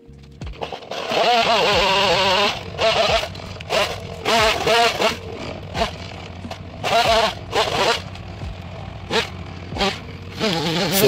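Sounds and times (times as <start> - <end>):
chainsaw revving and idling: 0.0 - 11.0.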